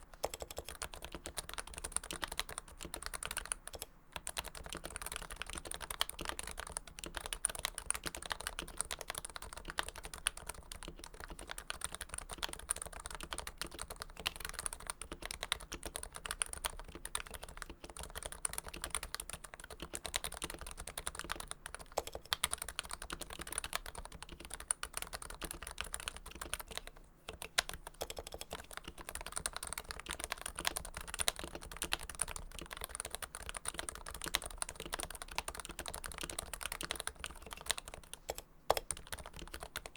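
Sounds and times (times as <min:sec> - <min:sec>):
fast typing on a keyboard: 0:00.0 - 0:39.9.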